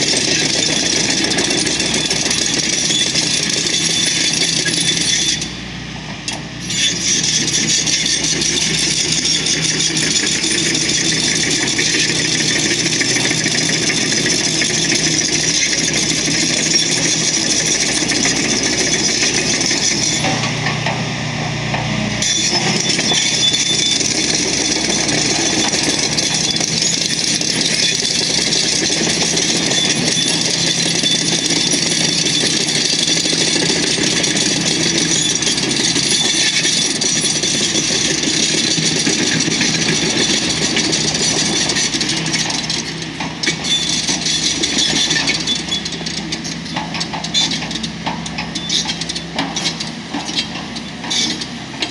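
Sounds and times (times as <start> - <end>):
excavator diesel engine: 0.0 - 51.9
loud mechanical work noise: 0.0 - 51.9.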